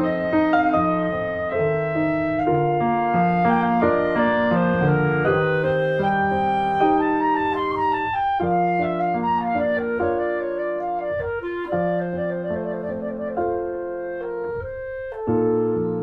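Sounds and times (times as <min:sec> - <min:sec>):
clarinet-like woodwind melody: 0:00.0 - 0:16.0
piano accompaniment: 0:00.0 - 0:16.0.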